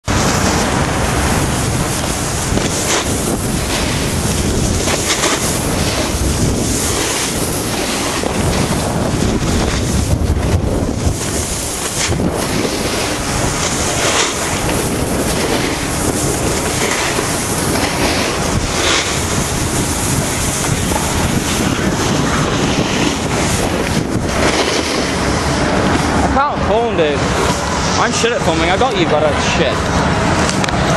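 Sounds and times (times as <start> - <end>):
snow hissing under skis: 0.0 - 26.4
wind rushing on microphone: 0.0 - 30.9.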